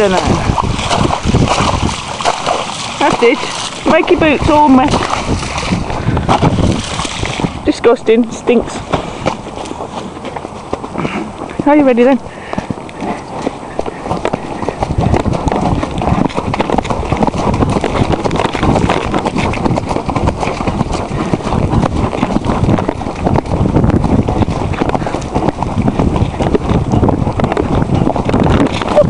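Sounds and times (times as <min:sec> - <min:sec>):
horse hoofbeats on muddy track: 0:00.0 - 0:29.0.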